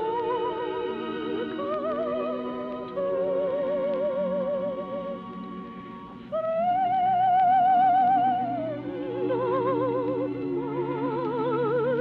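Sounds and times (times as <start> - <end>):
orchestral melody with vibrato: 0.0 - 12.0
sustained orchestral chords: 0.0 - 12.0.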